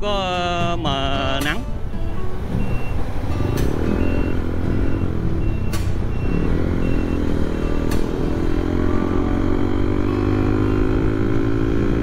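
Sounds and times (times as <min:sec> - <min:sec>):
road and wind rumble: 0:00.0 - 0:12.0
motorcycle engine running: 0:02.3 - 0:12.0.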